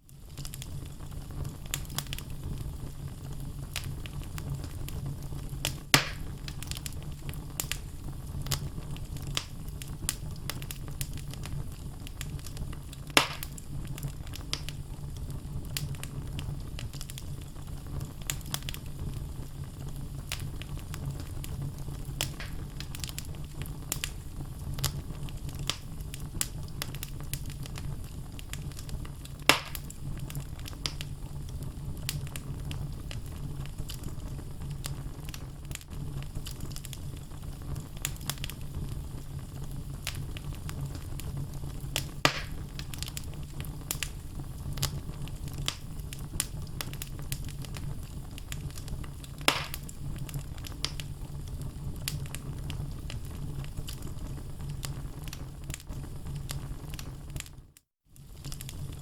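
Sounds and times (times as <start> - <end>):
fire crackles and snaps: 0.0 - 59.0
flames rumbling: 0.0 - 59.0
loud fire pops: 0.2 - 59.0.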